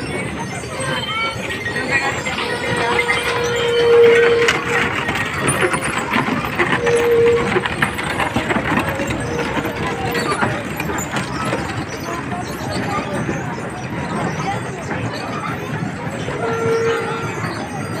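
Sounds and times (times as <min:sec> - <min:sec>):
wooden axles whining: 0:00.0 - 0:15.6
crowd voices: 0:00.0 - 0:18.0.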